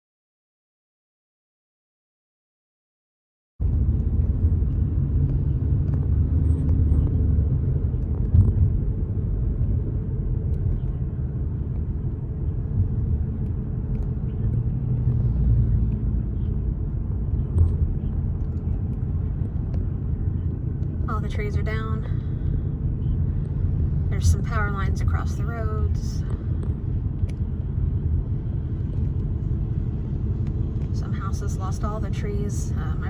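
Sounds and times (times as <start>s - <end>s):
car interior road noise: 3.6s - 33.0s.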